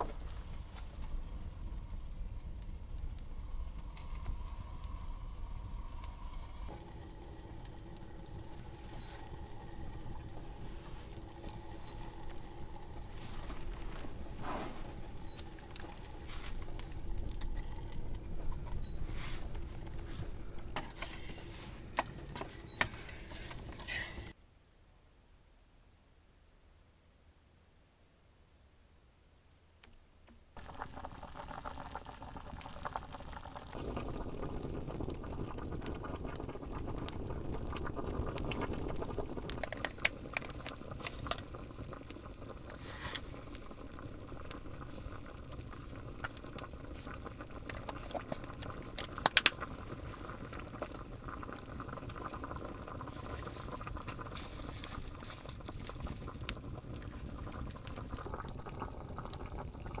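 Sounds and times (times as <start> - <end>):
pot boiling and bubbling: 0.0 - 24.4, 30.6 - 60.0
wood fire crackling and popping: 0.0 - 24.4, 30.6 - 60.0.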